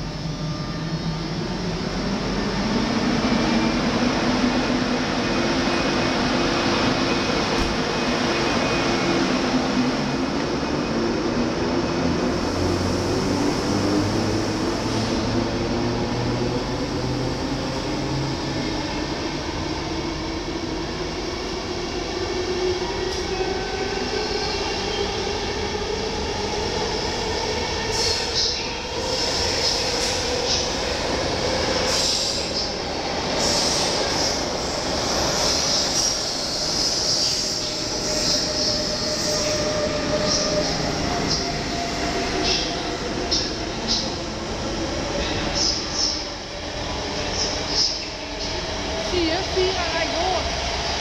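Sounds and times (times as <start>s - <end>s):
train coaches rolling with whine: 0.0s - 51.0s.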